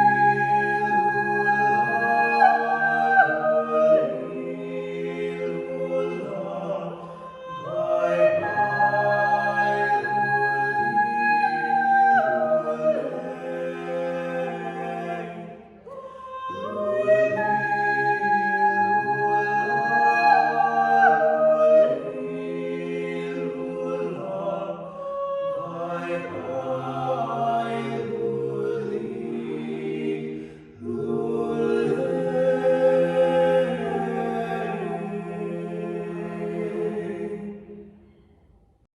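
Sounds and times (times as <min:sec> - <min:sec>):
choir singing a cappella: 0:00.0 - 0:38.4.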